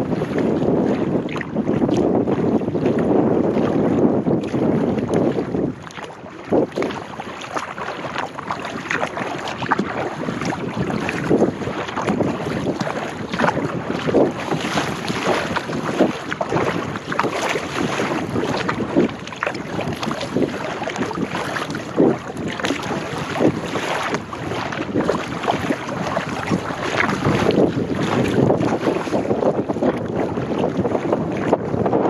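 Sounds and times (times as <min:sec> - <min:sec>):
water splashing around paddle: 0:00.0 - 0:32.0
wind buffeting microphone: 0:00.0 - 0:32.0.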